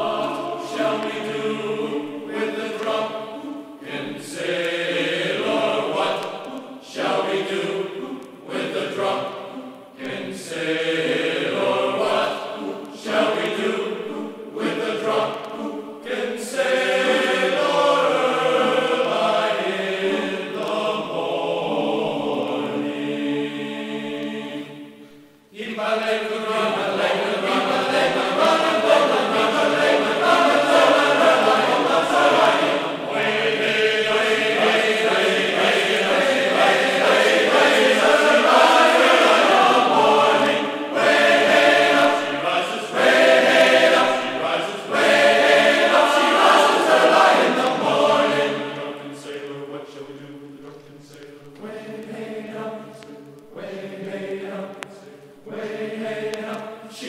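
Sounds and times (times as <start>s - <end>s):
group singing a sea shanty: 0.0s - 57.0s.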